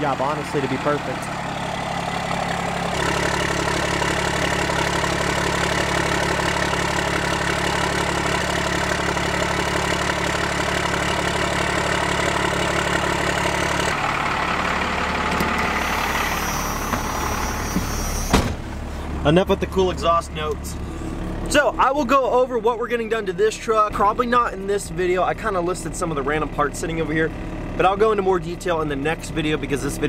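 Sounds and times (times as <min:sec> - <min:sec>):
pickup truck engine idling: 0:00.0 - 0:30.0.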